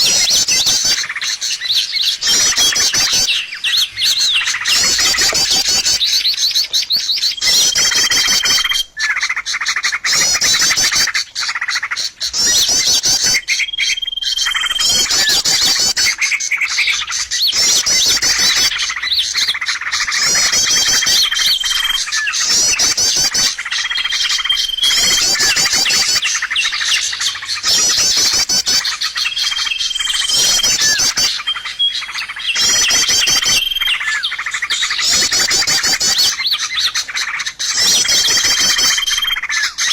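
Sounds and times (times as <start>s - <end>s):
background bird chirping: 0.0s - 39.9s
recorded songbird chirps and whistle: 0.0s - 39.9s.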